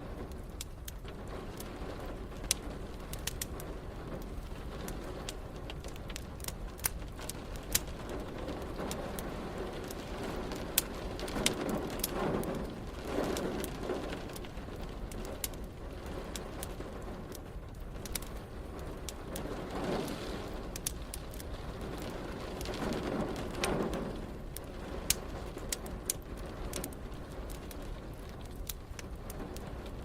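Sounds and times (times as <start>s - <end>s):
rain hissing: 0.0s - 30.0s
wood fire crackling: 0.0s - 30.0s.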